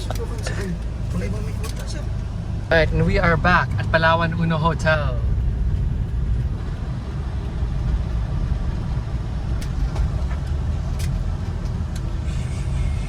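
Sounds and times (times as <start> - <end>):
van engine rumble inside cabin: 0.0 - 13.0.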